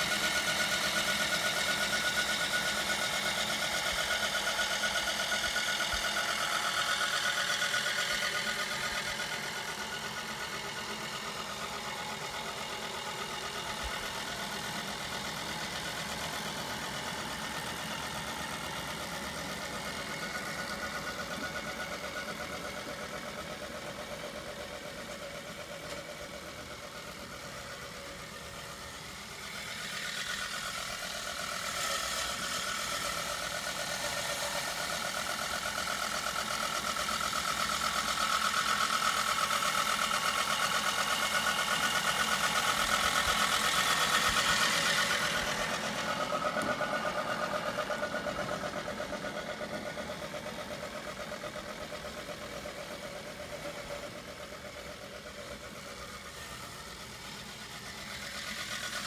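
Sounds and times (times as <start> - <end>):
lawn mower running: 0.0 - 59.0.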